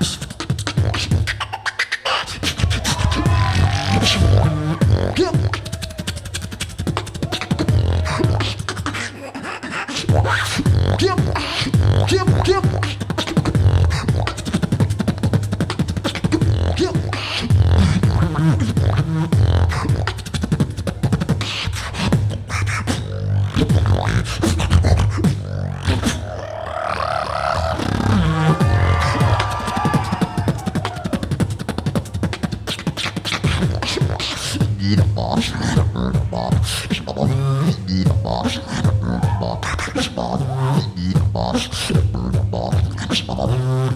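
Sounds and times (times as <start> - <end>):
person beatboxing into microphone: 0.0 - 43.9.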